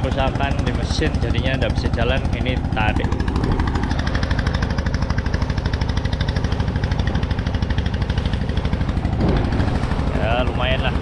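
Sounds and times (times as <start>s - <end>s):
boat engine knocking: 0.0s - 11.0s.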